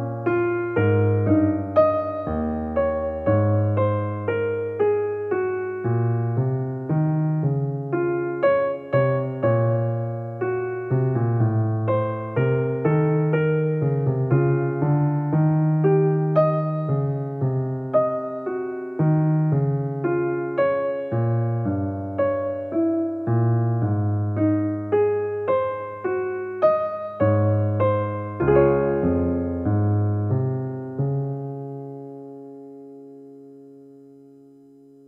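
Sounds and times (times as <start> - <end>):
slow piano music: 0.0 - 35.0.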